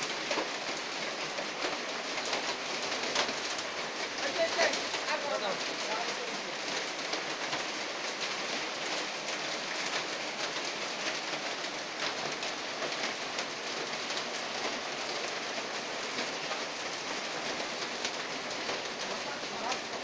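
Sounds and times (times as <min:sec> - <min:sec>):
heavy rain on hard ground: 0:00.0 - 0:20.0.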